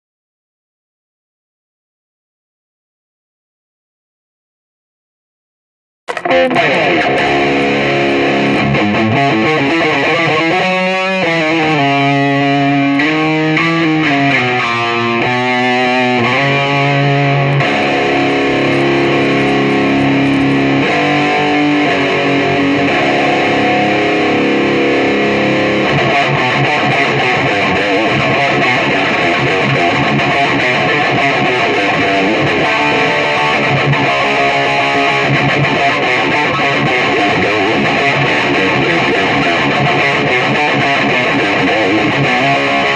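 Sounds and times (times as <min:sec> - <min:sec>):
electric guitar notes and strumming: 0:06.1 - 0:42.9.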